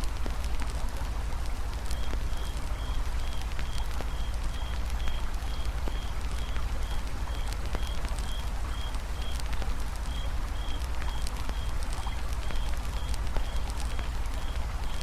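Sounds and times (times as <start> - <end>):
campfire crackling and popping: 0.0 - 15.0
river flowing: 0.0 - 15.0.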